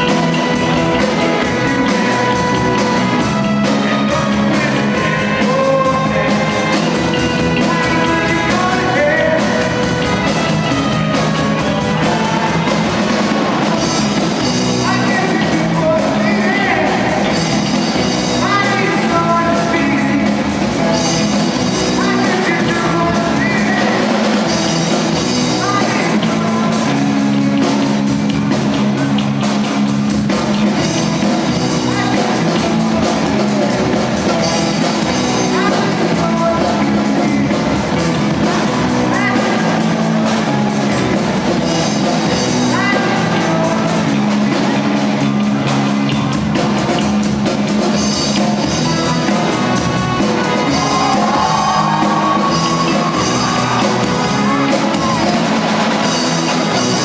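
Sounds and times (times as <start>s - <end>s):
person singing: 0.0s - 13.9s, 14.7s - 17.5s, 18.3s - 24.5s, 25.3s - 27.3s, 31.5s - 44.8s, 47.9s - 57.0s
drum kit: 0.0s - 57.0s
electric guitars: 0.0s - 57.0s
keyboard: 0.0s - 57.0s.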